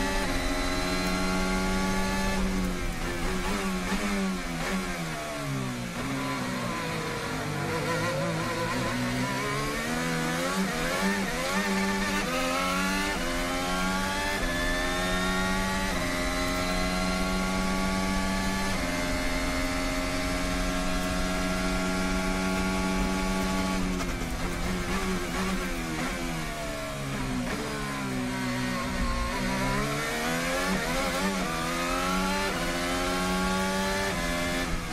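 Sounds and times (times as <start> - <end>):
racing car engine accelerating: 0.0 - 34.9.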